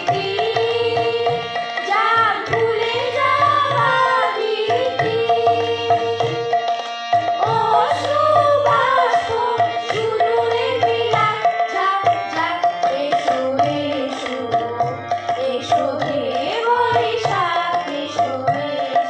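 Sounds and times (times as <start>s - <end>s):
children's choir singing: 0.0s - 19.0s
tabla drum strokes: 0.0s - 19.0s.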